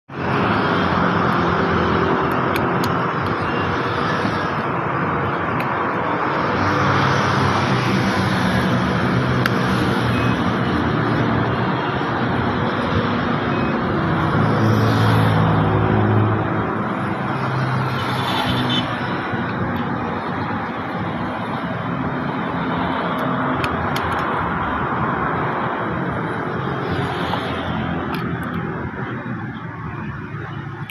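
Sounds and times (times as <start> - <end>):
loud traffic noise: 0.1 - 30.9.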